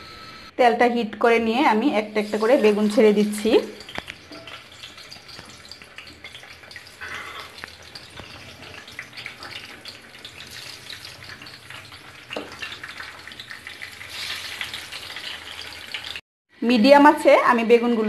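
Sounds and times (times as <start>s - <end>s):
eggplant sizzling in hot oil: 1.6s - 16.2s.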